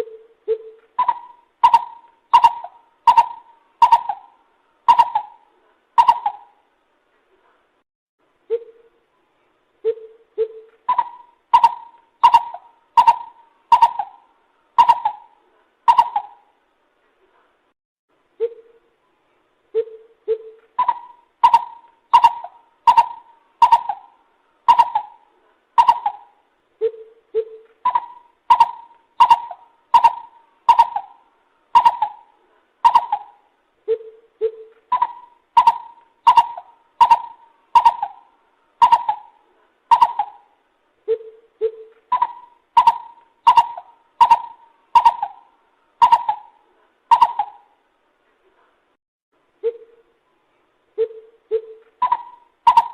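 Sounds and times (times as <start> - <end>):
bird calling hollow notes: 0.0 - 6.6, 9.8 - 16.5, 19.8 - 47.8, 51.0 - 52.9.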